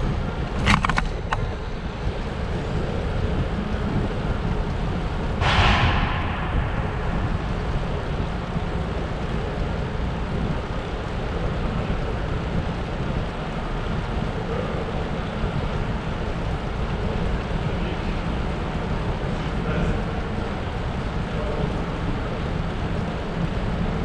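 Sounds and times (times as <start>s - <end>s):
bicycle road rumble: 0.0s - 24.0s
wind rush on microphone: 0.0s - 24.0s.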